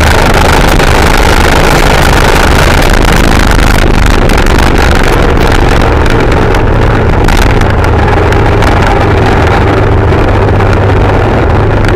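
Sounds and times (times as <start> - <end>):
scooter engine running hard: 0.0 - 11.9
wind rush on microphone: 0.0 - 11.9.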